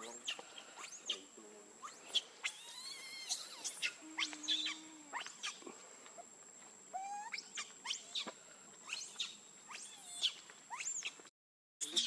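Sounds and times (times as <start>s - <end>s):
young monkeys squealing: 0.0s - 5.7s, 6.9s - 11.2s.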